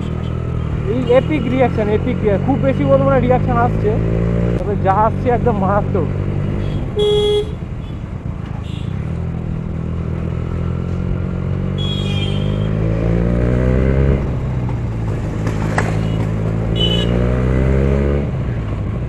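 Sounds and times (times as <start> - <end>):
motorcycle engine accelerating: 0.0 - 7.4, 9.1 - 18.9.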